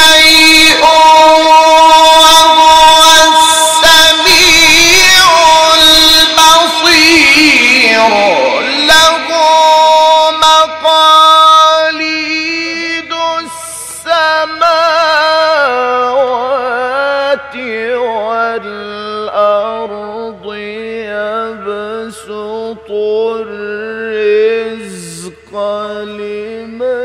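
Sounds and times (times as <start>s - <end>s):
man chanting melodically: 0.0s - 27.0s.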